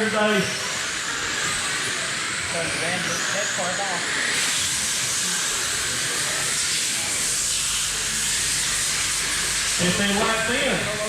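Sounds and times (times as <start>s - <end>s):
rc cars whirring on dirt: 0.0s - 11.0s.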